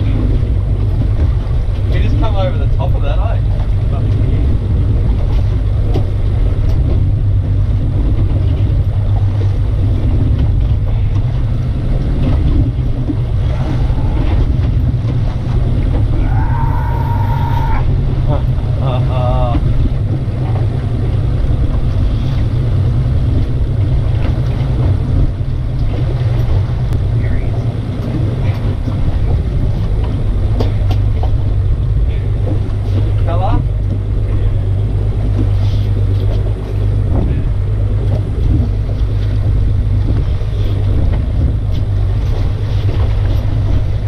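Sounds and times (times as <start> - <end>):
outboard motor humming: 0.0 - 44.0
water splashing: 0.0 - 44.0
wind buffeting microphone: 0.0 - 44.0.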